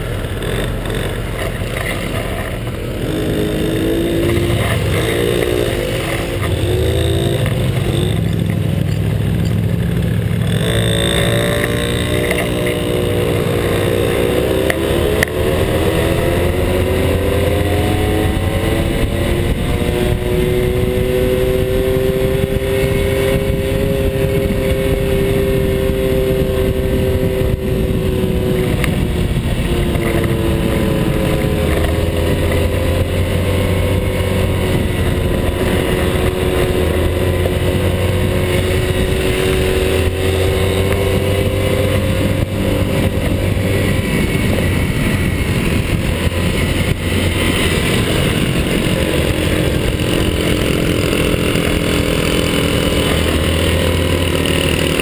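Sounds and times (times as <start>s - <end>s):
motorbike engine at speed: 0.0s - 55.0s
wind rushing over microphone: 0.0s - 55.0s.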